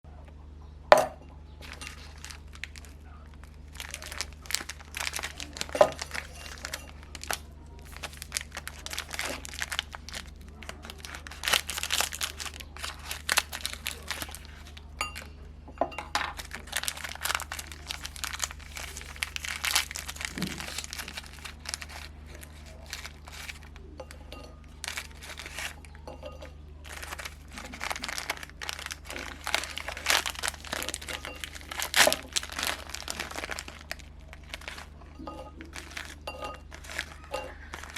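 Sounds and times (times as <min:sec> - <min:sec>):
steady low hum: 0:00.1 - 0:37.9
cookies crunching in grinder: 0:01.5 - 0:37.9.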